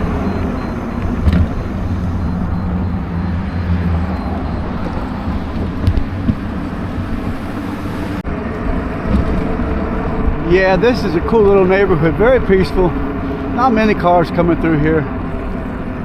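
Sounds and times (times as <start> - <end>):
wind and tyre rumble: 0.0 - 16.0.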